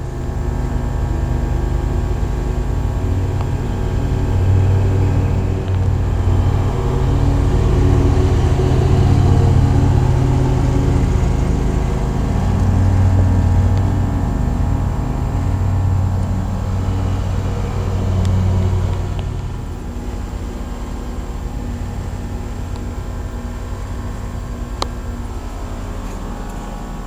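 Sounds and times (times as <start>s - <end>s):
compressor humming: 0.0s - 27.0s
condenser fan whooshing: 0.0s - 27.0s.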